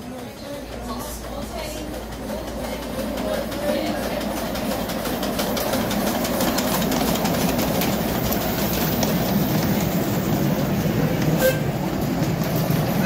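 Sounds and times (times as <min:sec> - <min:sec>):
clicks from train wheels: 0:00.0 - 0:13.0
miniature steam train running past: 0:00.0 - 0:13.0.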